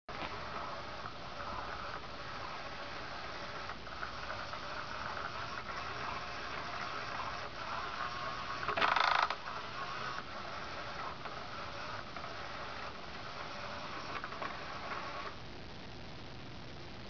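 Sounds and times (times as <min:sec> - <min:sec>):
toy motor whirring and rattling: 0:00.2 - 0:15.4.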